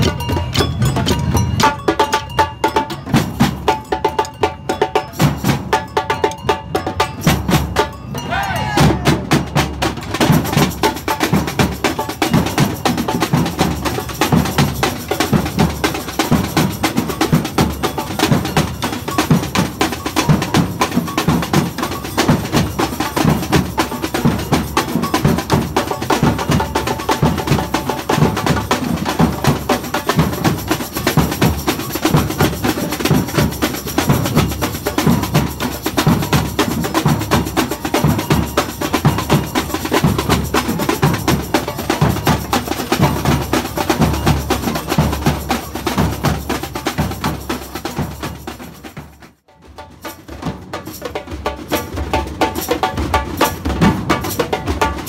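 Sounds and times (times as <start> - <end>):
samba percussion band: 0.0 - 55.0.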